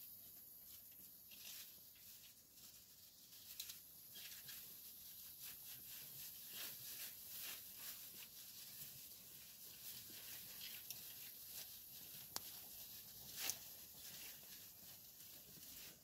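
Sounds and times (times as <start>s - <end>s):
sheep tearing grass: 1.3s - 16.0s.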